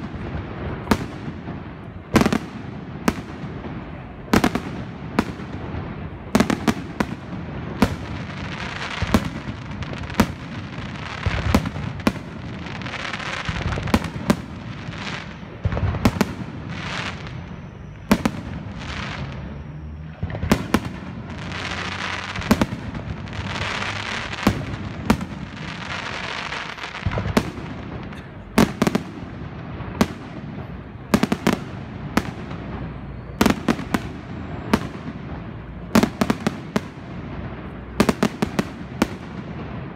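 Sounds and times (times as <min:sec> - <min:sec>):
fireworks bangs: 0:00.0 - 0:39.9
fireworks hiss: 0:00.0 - 0:39.9.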